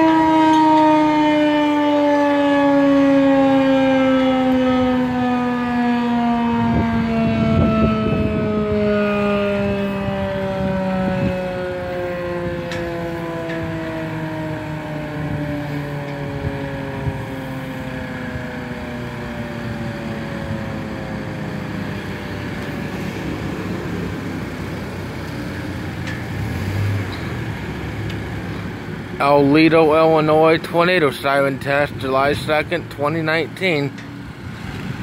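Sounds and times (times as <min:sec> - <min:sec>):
road traffic rumble: 0:00.0 - 0:35.0
warning siren winding down: 0:00.0 - 0:35.0.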